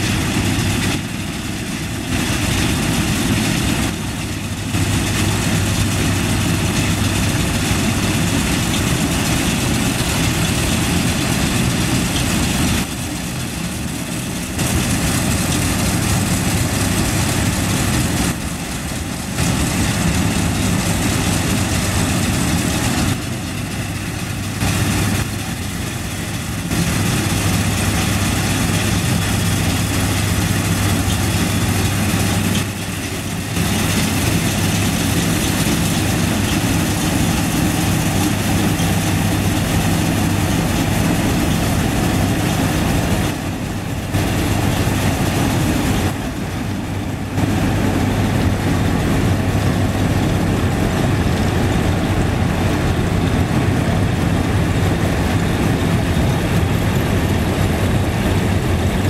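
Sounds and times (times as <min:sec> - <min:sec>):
combine harvester engine hum: 0:00.0 - 0:59.0
threshing machinery noise: 0:00.0 - 0:59.0.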